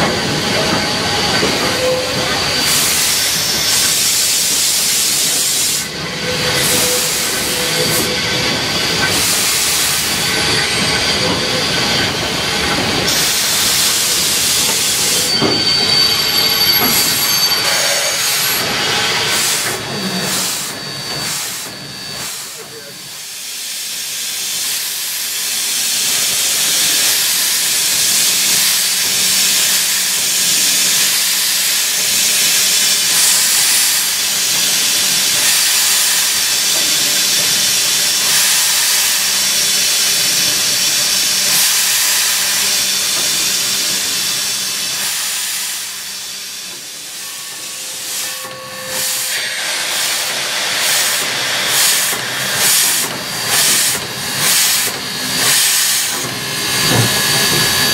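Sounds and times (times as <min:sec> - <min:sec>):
steam locomotive hissing: 0:00.0 - 0:57.9.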